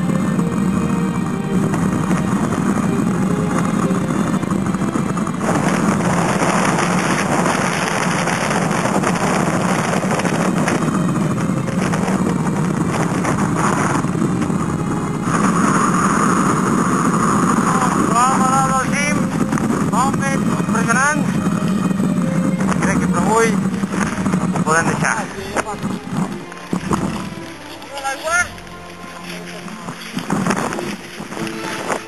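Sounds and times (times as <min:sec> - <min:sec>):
strong wind buffeting microphone: 0:00.0 - 0:32.0.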